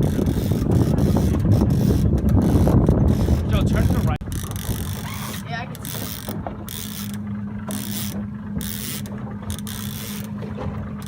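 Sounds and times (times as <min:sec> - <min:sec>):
boat engine humming: 0:00.0 - 0:11.0
fishing reel gears whirring: 0:00.0 - 0:11.0.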